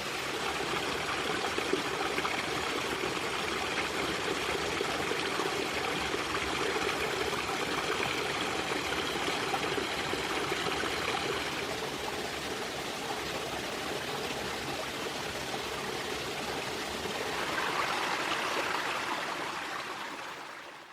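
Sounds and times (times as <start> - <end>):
stream water running: 0.0 - 20.9.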